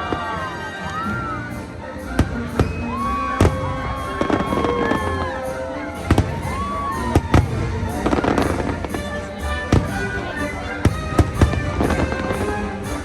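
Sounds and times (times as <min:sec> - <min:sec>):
music soundtrack: 0:00.0 - 0:13.0
fireworks bangs: 0:02.1 - 0:12.8.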